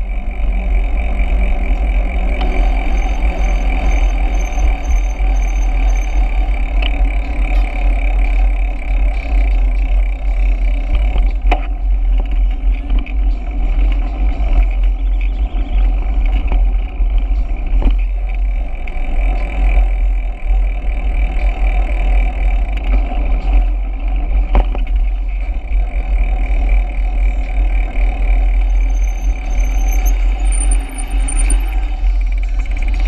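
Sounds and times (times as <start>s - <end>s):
road and tyre noise: 0.0s - 33.0s.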